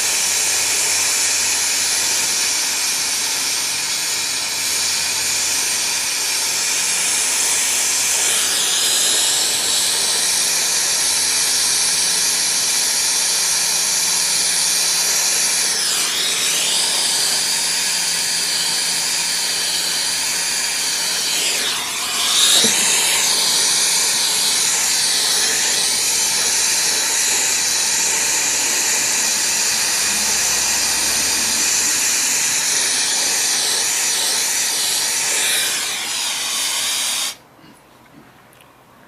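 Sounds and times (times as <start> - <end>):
brazing torch flame hissing: 0.0 - 37.4.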